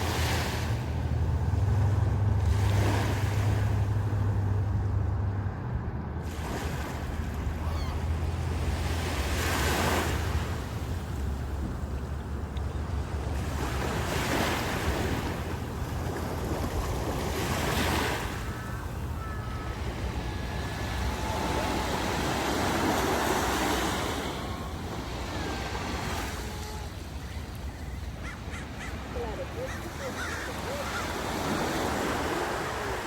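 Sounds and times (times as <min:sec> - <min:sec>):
ocean surf breaking: 0:00.0 - 0:04.9, 0:06.2 - 0:33.0.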